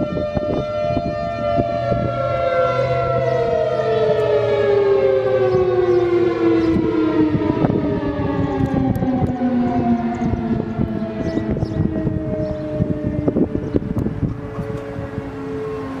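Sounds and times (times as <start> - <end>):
warning siren winding down: 0.0 - 16.0.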